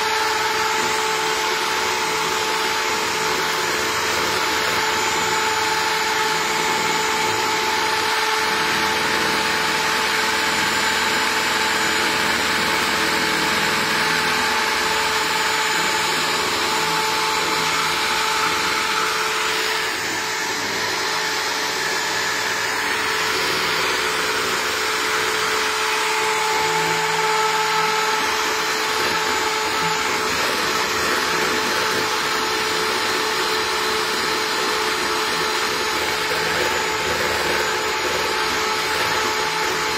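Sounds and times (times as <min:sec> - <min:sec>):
electric hand mixer whipping: 0:00.0 - 0:39.9.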